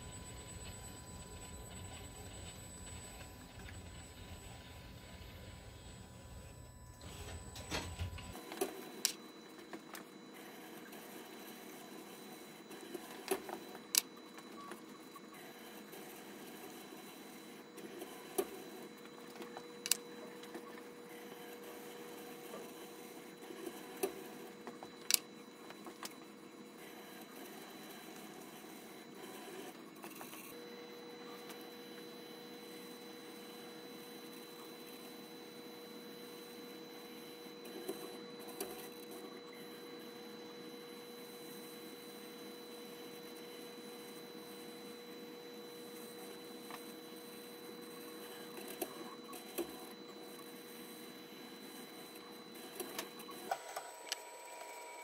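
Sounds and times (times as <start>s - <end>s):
servo drives whine and hum: 0.0s - 55.0s.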